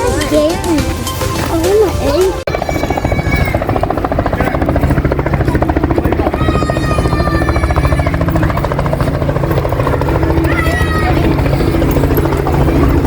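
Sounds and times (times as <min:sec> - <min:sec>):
helicopter rotor blade chop: 0:00.0 - 0:13.0.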